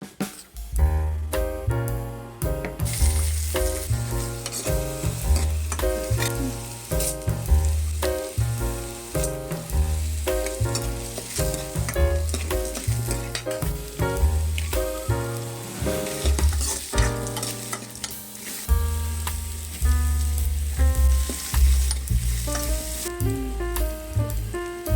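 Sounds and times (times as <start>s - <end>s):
background music with bass line: 0.1s - 24.9s
food sizzling in oil: 2.5s - 24.9s.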